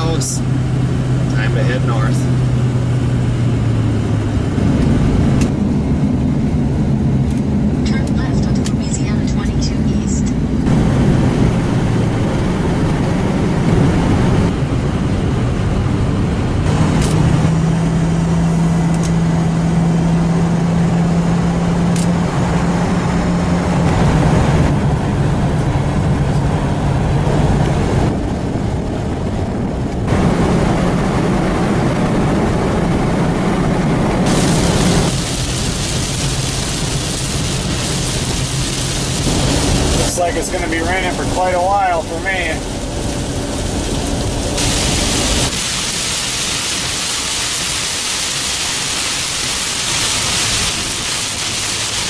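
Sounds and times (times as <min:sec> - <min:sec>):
road noise: 0:00.0 - 0:52.0
truck engine drone: 0:00.0 - 0:52.0.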